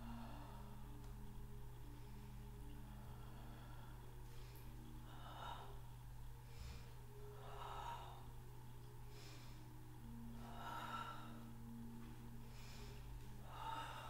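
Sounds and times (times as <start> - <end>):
person breathing softly: 0.0 - 14.0
steady low hum: 0.0 - 14.0.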